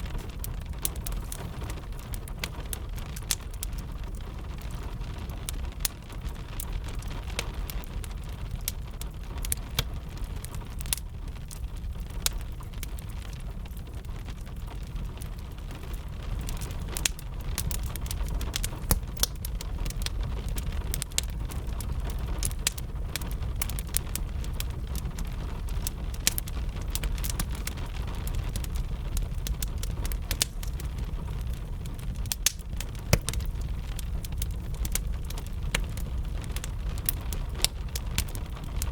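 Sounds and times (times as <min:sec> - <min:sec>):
fire crackling and popping: 0:00.0 - 0:38.9
gentle rain: 0:00.0 - 0:38.9
steady low rumble: 0:00.0 - 0:38.9.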